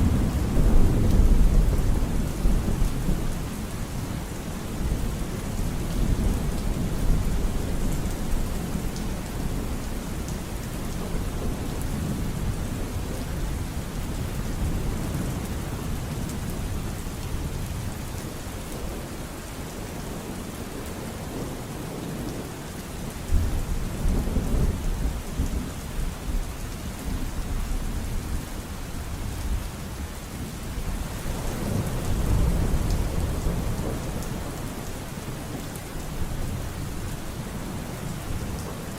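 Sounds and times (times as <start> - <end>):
low rolling thunder: 0.0 - 4.0, 4.7 - 18.9, 23.2 - 29.6, 30.7 - 38.9
steady rain: 0.0 - 38.9.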